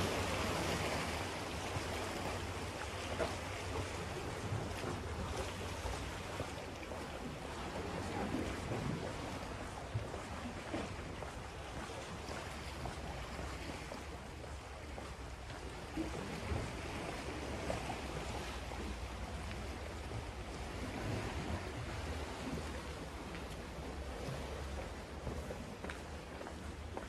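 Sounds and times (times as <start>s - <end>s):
sea waves washing on shore: 0.0s - 27.0s
wind rumbling on microphone: 0.0s - 27.0s.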